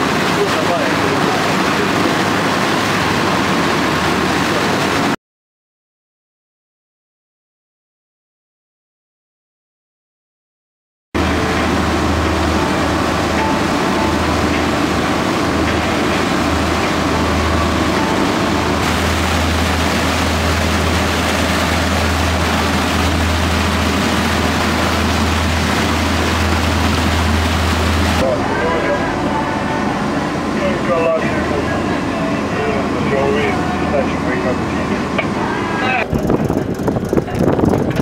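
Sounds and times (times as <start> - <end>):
boat engine humming: 0.0 - 5.2, 11.2 - 38.0
water rushing in wake: 0.0 - 5.2, 11.2 - 38.0.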